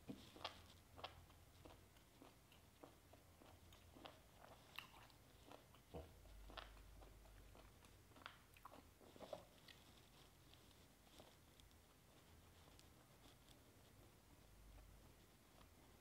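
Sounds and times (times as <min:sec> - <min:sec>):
close-up chewing: 0:00.0 - 0:16.0.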